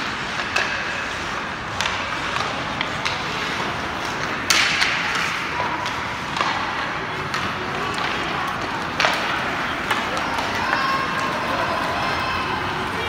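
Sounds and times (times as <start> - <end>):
skates scraping on ice: 0.0 - 13.0
sticks and puck clacking: 0.0 - 13.0.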